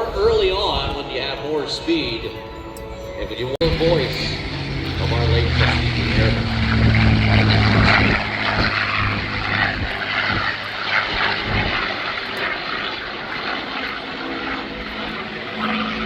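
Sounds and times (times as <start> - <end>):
propeller airplane flying past: 0.0 - 16.0.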